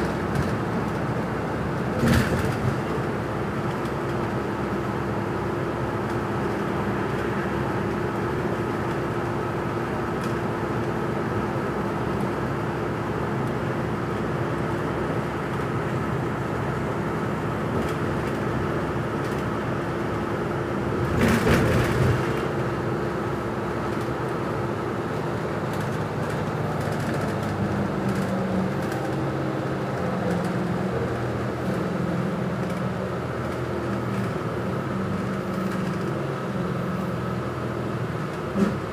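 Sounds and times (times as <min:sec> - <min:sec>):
bus engine: 0:00.0 - 0:38.9
tyre and road noise: 0:00.0 - 0:38.9.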